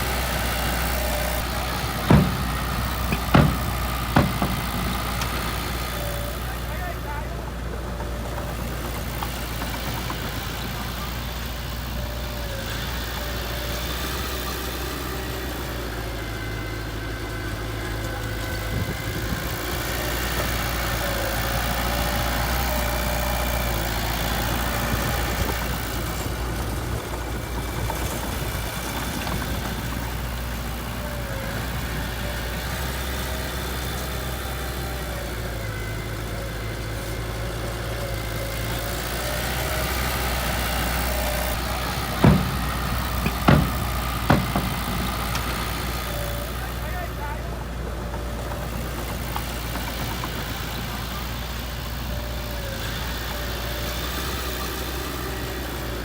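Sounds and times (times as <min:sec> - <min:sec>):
diesel engine running at low revs: 0:00.0 - 0:56.0.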